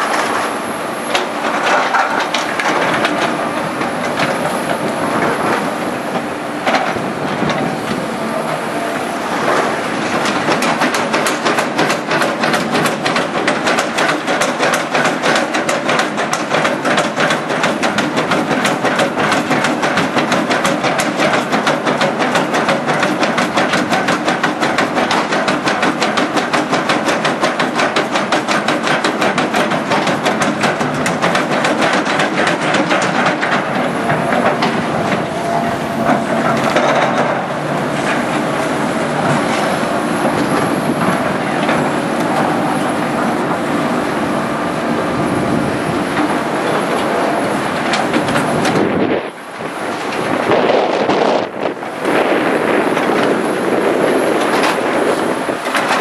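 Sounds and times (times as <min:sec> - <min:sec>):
excavators clattering: 0:00.0 - 0:56.0.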